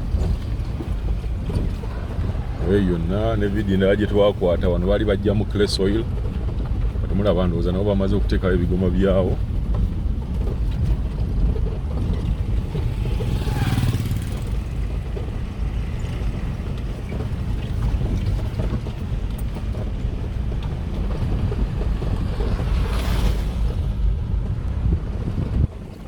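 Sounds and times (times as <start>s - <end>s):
moving vehicle rumble: 0.0s - 26.0s
wind buffeting microphone: 0.0s - 26.0s.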